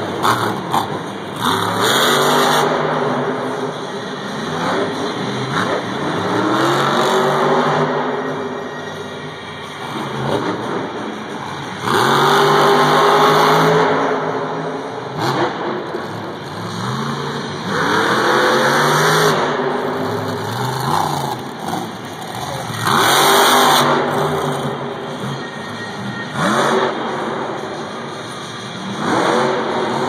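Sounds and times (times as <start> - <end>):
truck engine revving hard: 0.0 - 8.6, 9.8 - 30.0.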